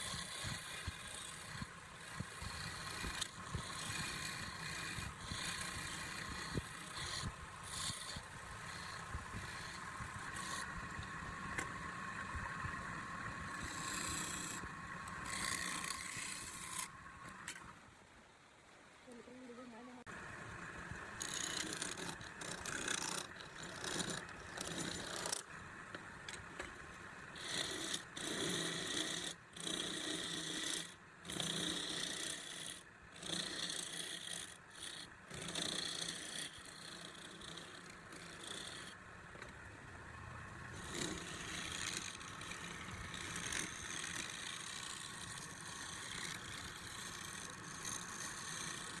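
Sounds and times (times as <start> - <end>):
tool scraping spinning wood: 0.0 - 17.7, 20.6 - 39.7, 40.5 - 49.0.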